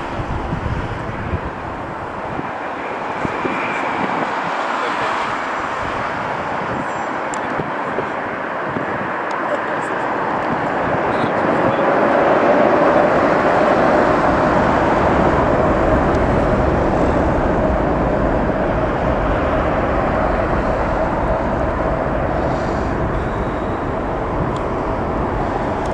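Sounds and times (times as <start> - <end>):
jet engine whine and rumble: 0.0 - 25.9.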